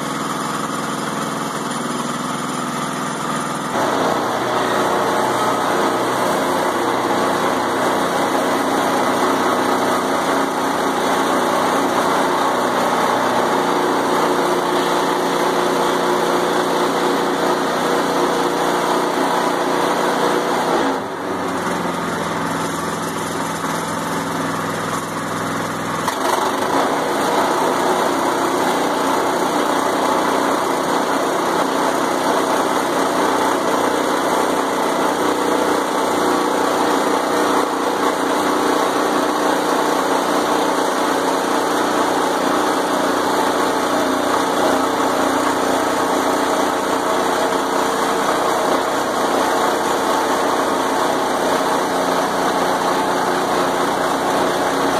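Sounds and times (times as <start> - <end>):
small gas engine running: 0.0 - 54.9.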